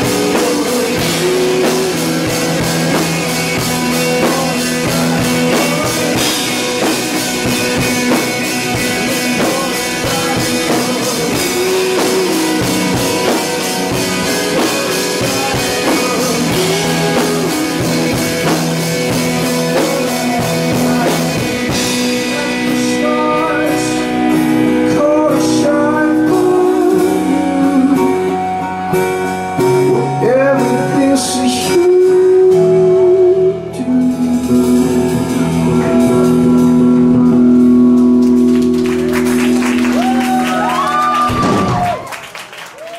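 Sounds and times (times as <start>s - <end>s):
person singing: 0.0s - 36.2s
drum kit: 0.0s - 42.9s
electric guitar: 0.0s - 42.9s.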